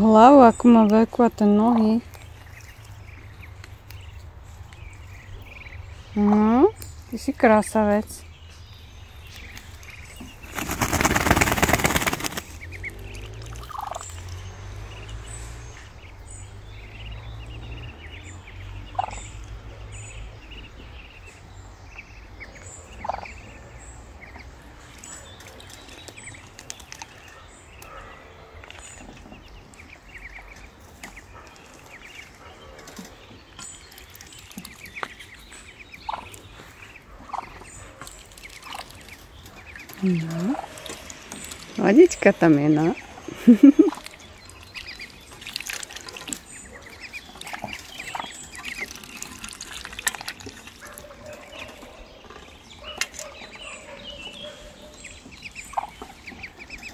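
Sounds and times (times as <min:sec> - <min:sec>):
ducks calling: 0:00.0 - 0:24.8, 0:25.4 - 0:56.9.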